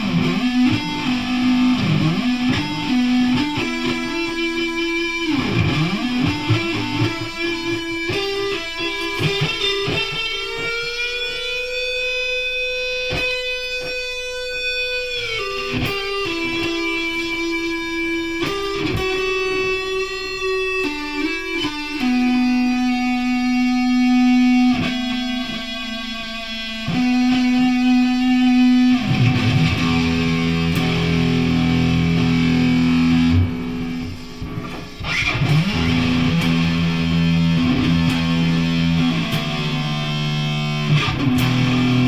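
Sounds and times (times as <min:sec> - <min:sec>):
guitar with effects: 0:00.0 - 0:42.0.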